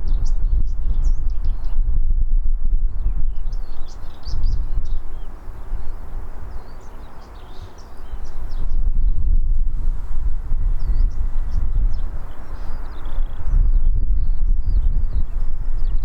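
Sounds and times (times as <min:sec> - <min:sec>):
small birds chirping: 0:00.0 - 0:02.0, 0:03.0 - 0:16.0
wind buffeting microphone: 0:00.0 - 0:16.0.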